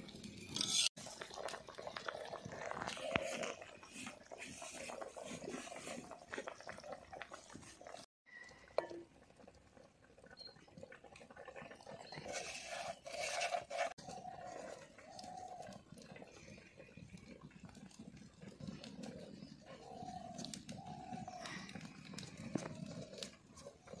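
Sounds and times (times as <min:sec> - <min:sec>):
curry bubbling in a pan: 0:00.0 - 0:24.0.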